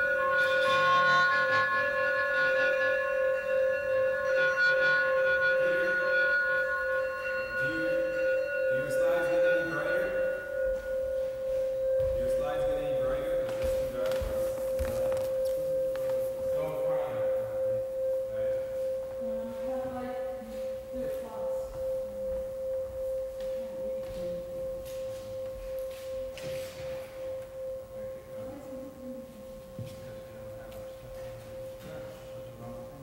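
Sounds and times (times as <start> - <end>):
struck metal instrument ringing: 0.0 - 33.0.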